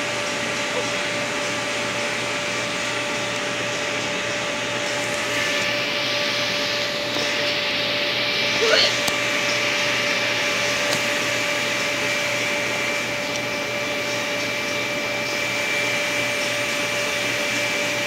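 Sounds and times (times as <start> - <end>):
electric blower running: 0.0 - 18.0.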